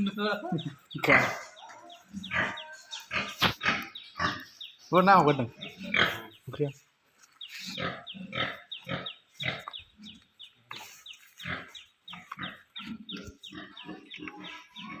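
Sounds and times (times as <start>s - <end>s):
pigs grunting and squealing: 0.0s - 4.6s, 5.3s - 6.4s, 7.6s - 10.2s, 10.8s - 15.0s.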